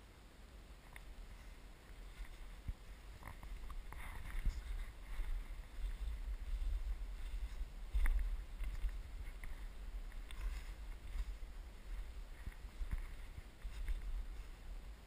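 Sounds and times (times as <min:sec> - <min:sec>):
wheelchair rolling over snow and gravel: 0:01.4 - 0:15.0
wind buffeting microphone: 0:02.0 - 0:15.0.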